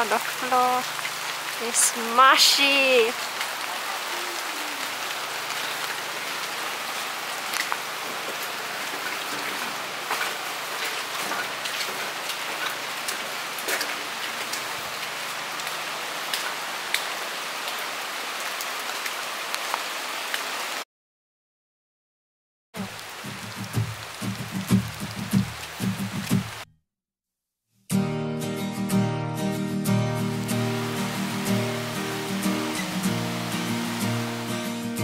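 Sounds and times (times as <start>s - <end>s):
raindrops pattering: 0.0s - 20.8s, 22.8s - 26.7s, 30.3s - 34.8s
steady rain: 0.0s - 20.8s, 22.8s - 26.7s, 30.0s - 35.0s.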